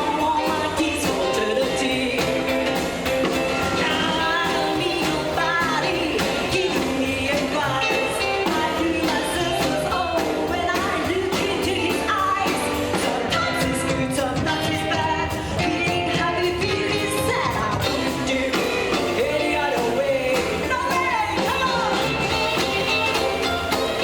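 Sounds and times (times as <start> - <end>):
live rockabilly band: 0.0 - 24.0
person singing lead: 0.0 - 24.0.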